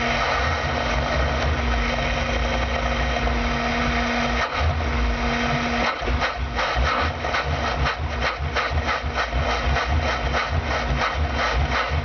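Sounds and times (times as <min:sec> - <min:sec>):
van engine chugging: 0:00.0 - 0:12.0.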